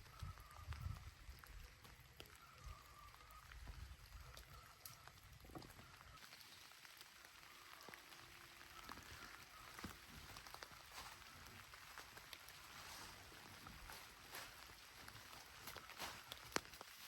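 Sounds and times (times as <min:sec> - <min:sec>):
faint rain falling: 0:00.0 - 0:17.0.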